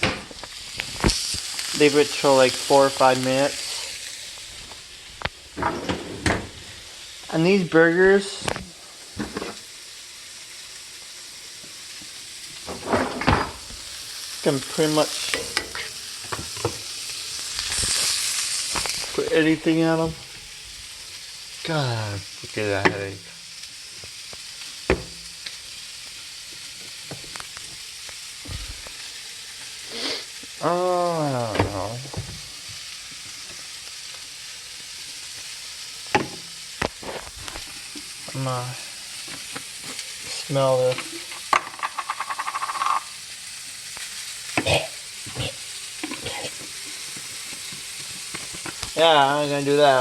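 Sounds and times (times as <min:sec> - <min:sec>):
burger patties sizzling in a pan: 0:00.0 - 0:50.0.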